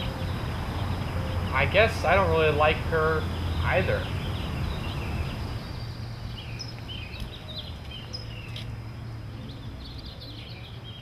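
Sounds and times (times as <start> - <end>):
low steady rumble: 0.0 - 11.0
small birds chirping: 0.0 - 11.0.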